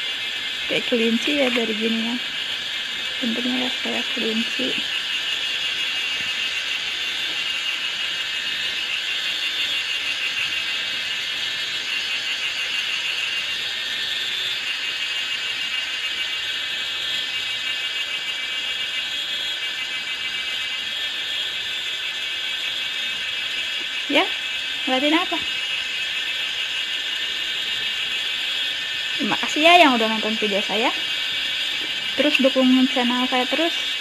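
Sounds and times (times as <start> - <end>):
high-pitched buzzing drone: 0.0 - 34.0.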